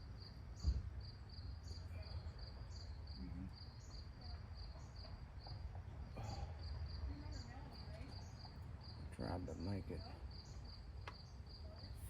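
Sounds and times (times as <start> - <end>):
insect chirping: 0.1 - 5.6, 6.2 - 12.0.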